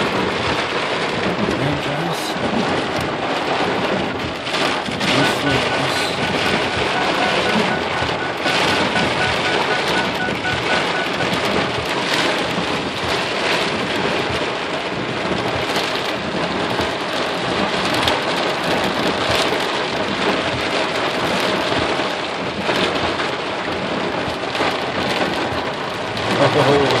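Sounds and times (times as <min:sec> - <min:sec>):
heavy rain on vehicle roof: 0:00.0 - 0:27.0.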